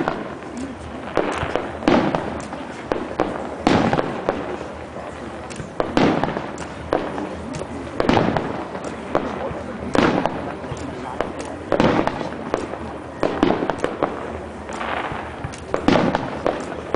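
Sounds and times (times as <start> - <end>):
fireworks bursting with crackling: 0.0 - 16.9.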